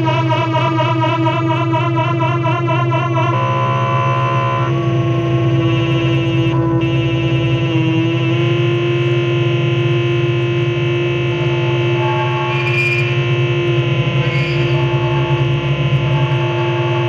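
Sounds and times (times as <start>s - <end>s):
low hum: 0.0s - 17.0s
noise music drone: 0.0s - 17.0s.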